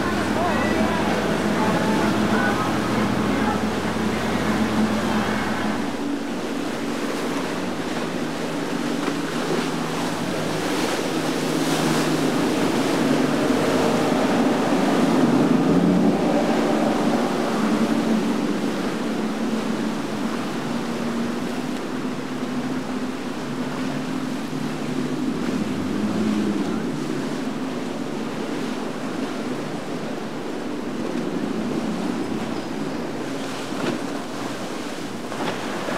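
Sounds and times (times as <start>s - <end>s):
motorboat engine humming: 0.0s - 35.9s
water churning and splashing: 0.0s - 35.9s.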